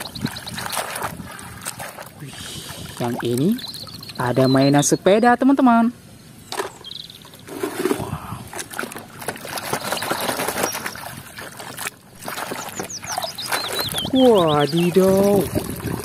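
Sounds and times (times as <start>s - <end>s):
water sloshing in plastic tub: 0.0s - 4.4s, 6.6s - 16.0s.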